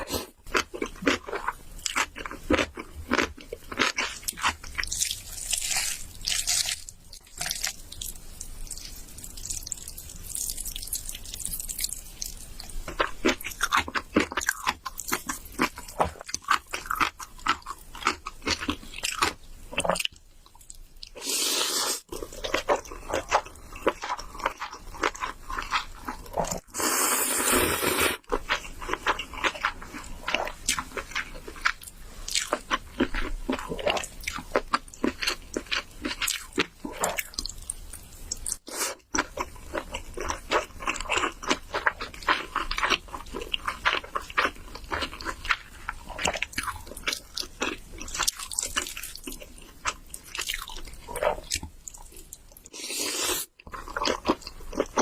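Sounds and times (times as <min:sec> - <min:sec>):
chewing and crunching: 0:00.0 - 0:21.2, 0:22.1 - 0:26.7, 0:28.2 - 0:55.0.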